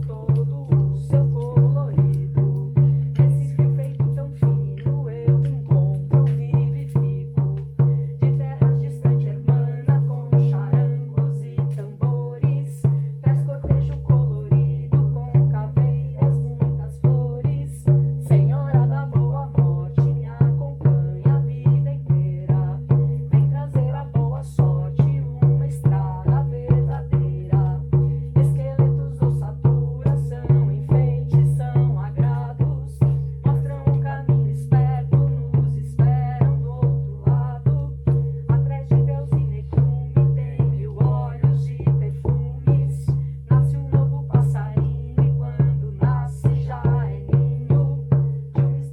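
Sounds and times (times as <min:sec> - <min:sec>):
percussion beat: 0:00.0 - 0:48.9.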